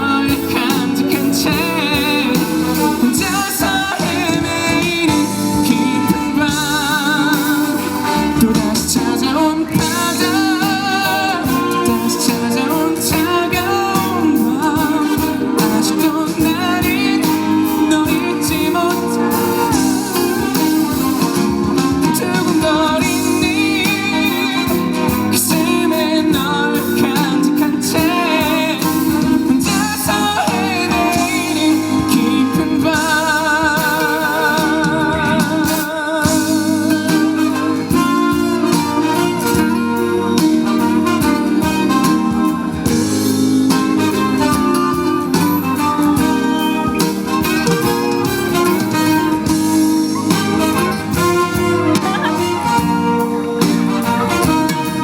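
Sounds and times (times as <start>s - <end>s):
band with guitar: 0.0s - 55.0s
person singing pop ballad: 0.0s - 55.0s.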